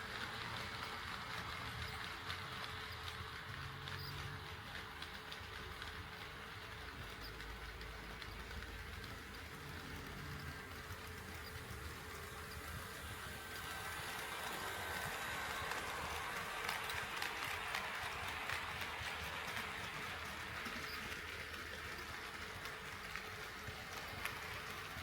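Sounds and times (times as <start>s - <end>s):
model train motor whine: 0.0s - 25.0s
model train wheel rumble: 0.0s - 25.0s.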